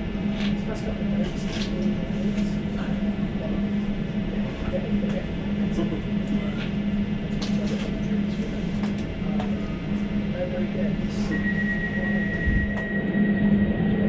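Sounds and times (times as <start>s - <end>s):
faint passenger chatter: 0.0s - 14.0s
train interior low hum: 0.0s - 14.0s.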